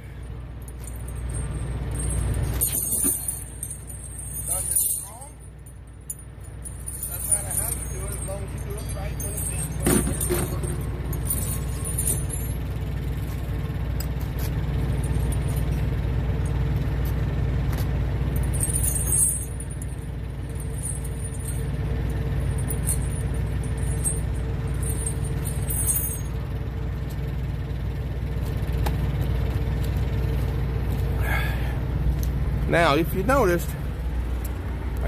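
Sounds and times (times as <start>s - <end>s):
truck engine idling: 0.0s - 35.0s
steel chains clinking and rattling: 0.2s - 35.0s.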